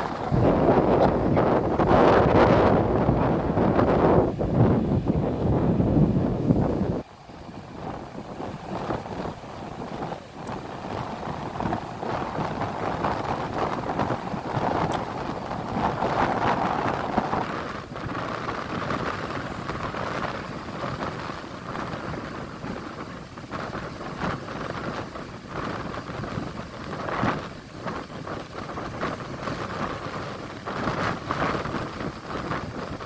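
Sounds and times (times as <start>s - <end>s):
surf breaking and washing ashore: 0.0s - 33.0s
wind rushing over microphone: 0.0s - 33.0s.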